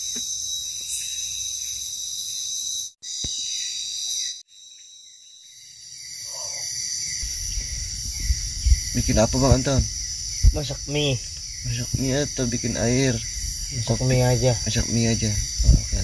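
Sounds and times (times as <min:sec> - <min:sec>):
night insects chirring: 0:00.0 - 0:16.0.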